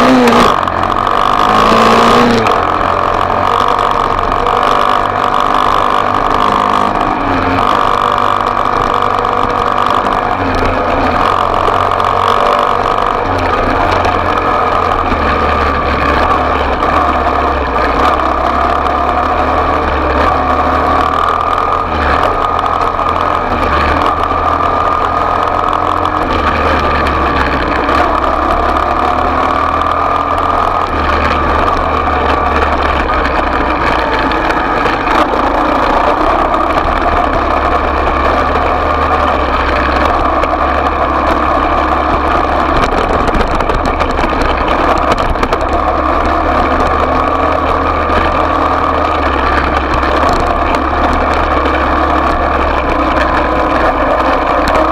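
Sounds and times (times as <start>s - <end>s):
small motorbike engine running: 0.0s - 54.9s.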